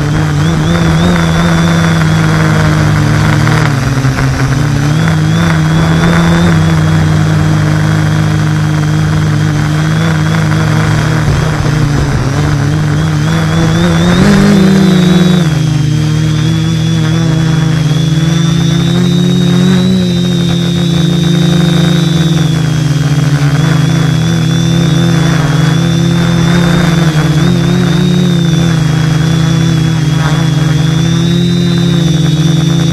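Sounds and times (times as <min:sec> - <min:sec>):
model aircraft motor drone: 0:00.0 - 0:32.9.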